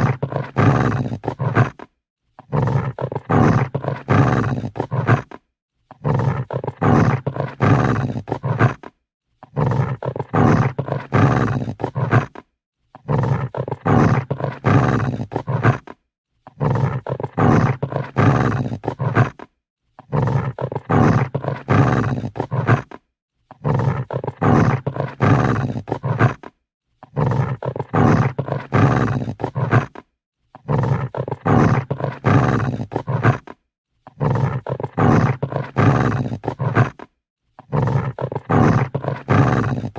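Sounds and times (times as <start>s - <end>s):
dog growling and snarling: 0.0s - 39.9s.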